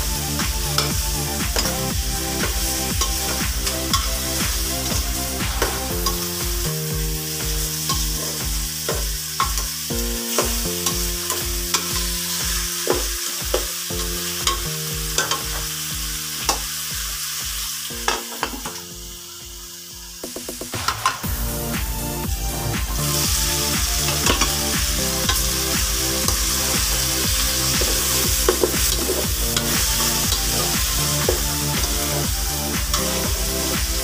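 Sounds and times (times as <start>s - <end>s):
background music with beat: 0.0s - 34.0s
chicken sizzling in pot: 0.0s - 34.0s.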